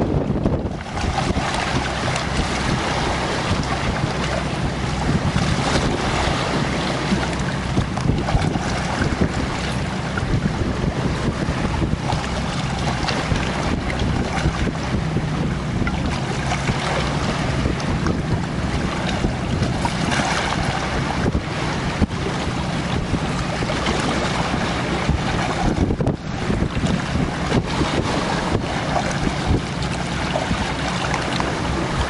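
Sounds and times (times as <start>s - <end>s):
water washing against rocky shore: 0.0s - 32.0s
wind buffeting microphone: 0.0s - 32.0s.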